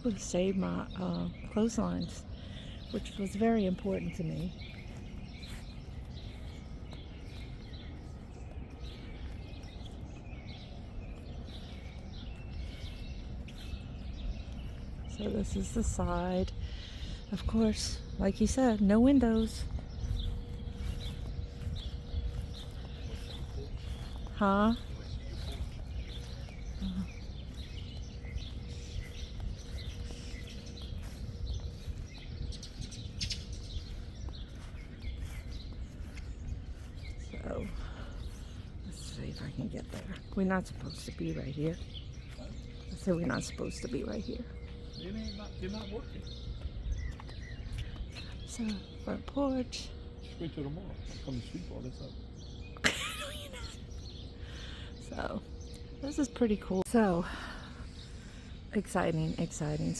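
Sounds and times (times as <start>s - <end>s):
steady low rumble: 0.0s - 59.9s
faint bird chirps: 1.5s - 18.4s, 19.6s - 56.8s.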